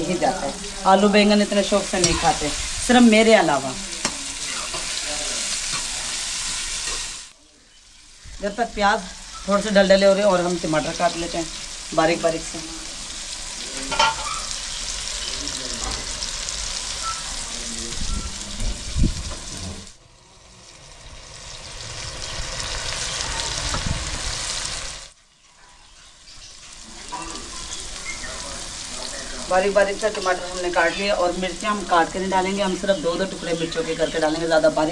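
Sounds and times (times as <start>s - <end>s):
onions sizzling in a pan: 0.0s - 34.9s.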